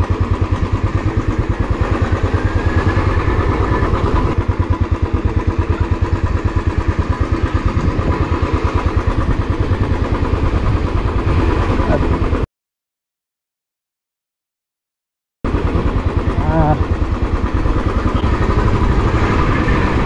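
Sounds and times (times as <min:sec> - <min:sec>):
motorcycle engine running: 0:00.0 - 0:12.5, 0:15.4 - 0:20.0.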